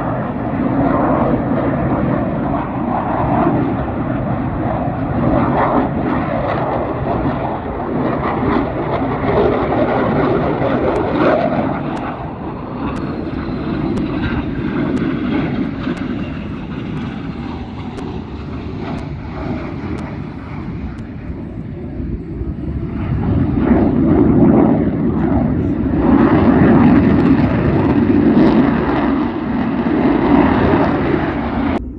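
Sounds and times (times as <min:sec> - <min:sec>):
aircraft engine rumble overhead: 0:00.0 - 0:31.9.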